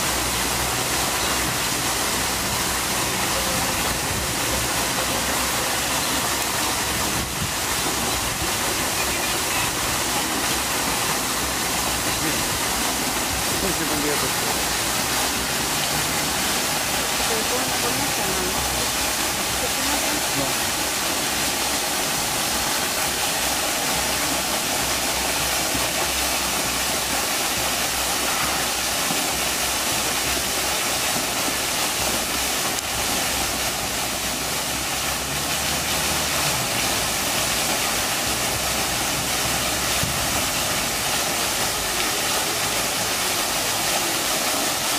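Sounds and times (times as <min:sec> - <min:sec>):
water rushing: 0:00.0 - 0:44.9.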